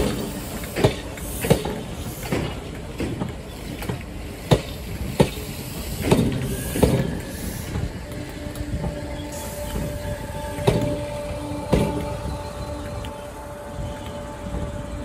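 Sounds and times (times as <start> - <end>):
train wheels clunking over rail joints: 0.0 - 14.2
low train hum: 0.0 - 15.0.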